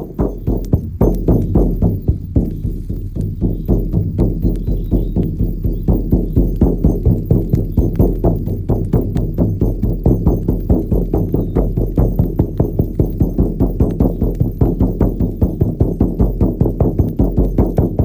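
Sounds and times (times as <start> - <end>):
frame drum beaten: 0.0 - 18.0.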